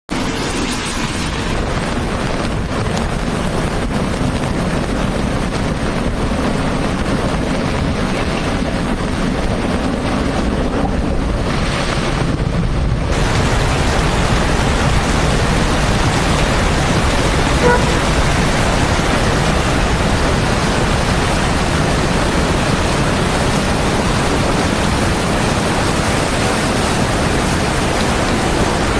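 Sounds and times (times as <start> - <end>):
heavy rain: 0.1 - 28.9.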